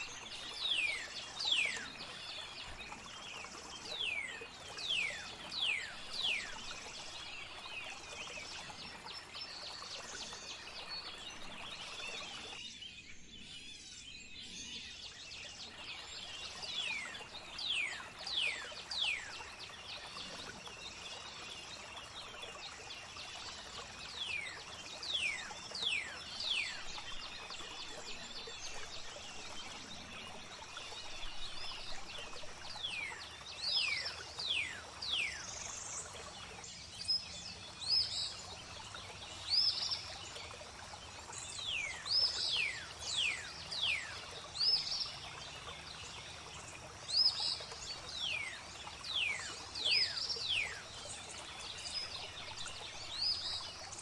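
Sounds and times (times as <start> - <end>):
flowing water: 0.0 - 12.6, 14.8 - 54.0.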